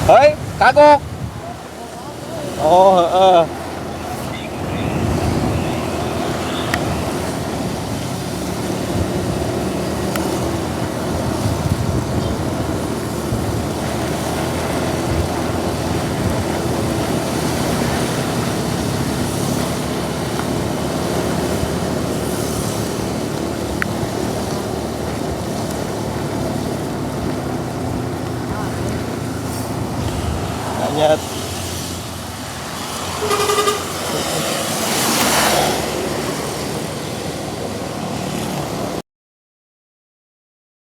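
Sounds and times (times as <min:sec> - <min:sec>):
vehicle engine running: 0:00.0 - 0:38.9
constant rushing noise: 0:00.0 - 0:39.0.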